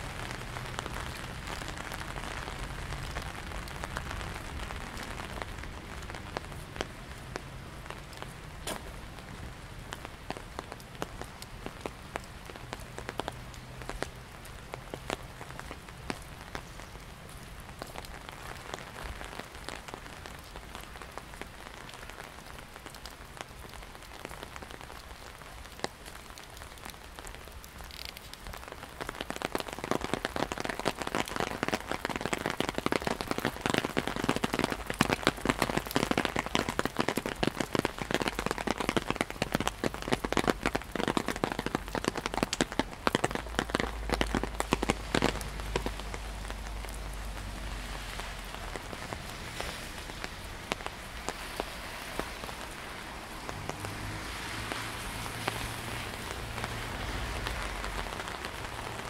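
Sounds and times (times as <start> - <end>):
rain pattering on an umbrella: 0.0 - 59.0.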